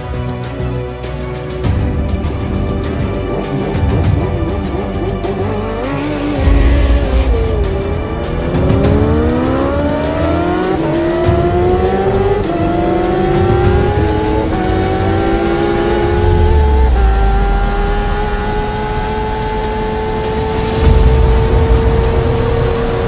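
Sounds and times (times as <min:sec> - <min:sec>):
low wind rumble: 0:01.6 - 0:23.0
motorcycle engine accelerating: 0:01.7 - 0:23.0.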